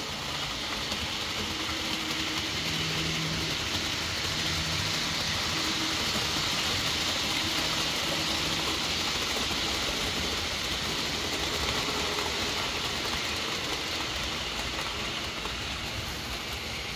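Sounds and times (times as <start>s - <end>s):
model train running on track: 0.0s - 16.9s.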